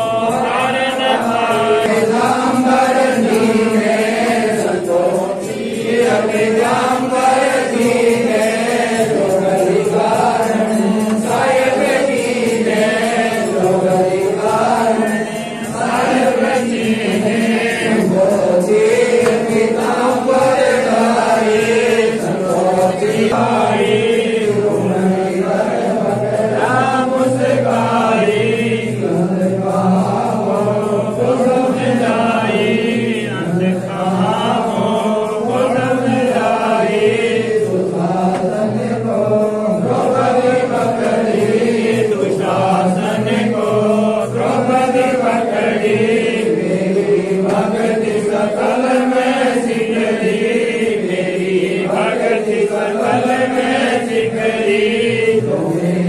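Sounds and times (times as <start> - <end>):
voices singing a slow chant: 0.0 - 56.0.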